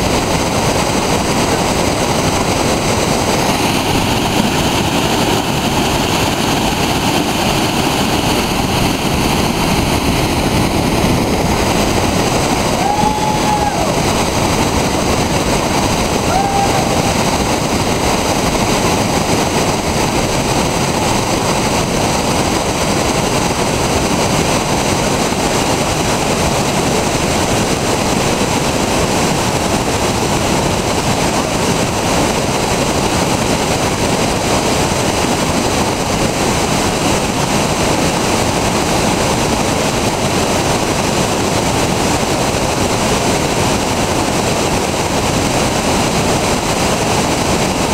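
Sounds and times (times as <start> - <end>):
roar of river rapids: 0.0 - 47.9.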